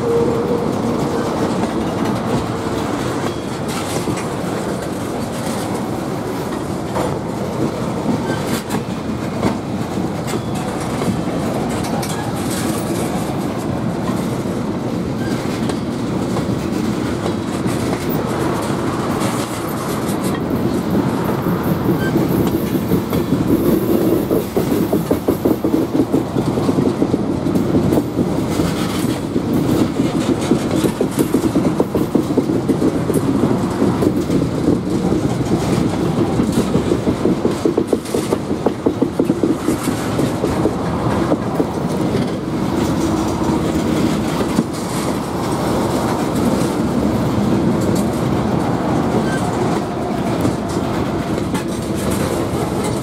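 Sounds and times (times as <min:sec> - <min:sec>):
freight train wheels rumbling: 0:00.0 - 0:53.0
wheels clacking over rail joints: 0:00.0 - 0:53.0.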